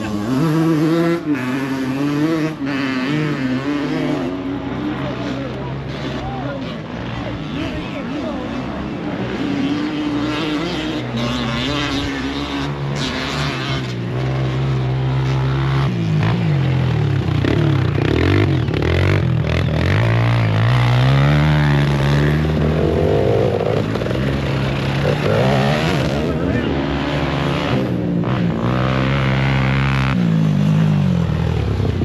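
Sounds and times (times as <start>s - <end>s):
dirt bike engines revving: 0.0s - 32.0s.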